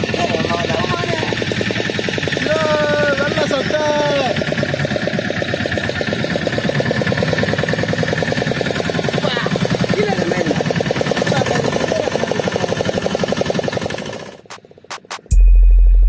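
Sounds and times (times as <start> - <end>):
boat engine pulsing chatter: 0.0 - 14.4.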